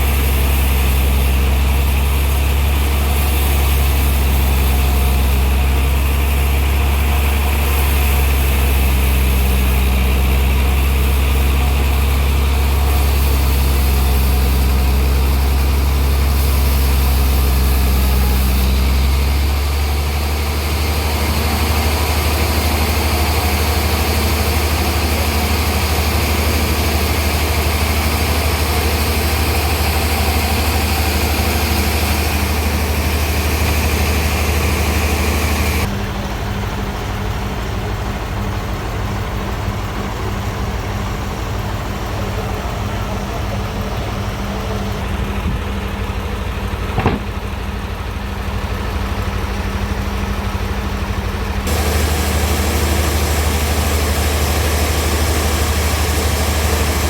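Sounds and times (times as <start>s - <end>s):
sawmill engine humming: 0.0s - 57.0s.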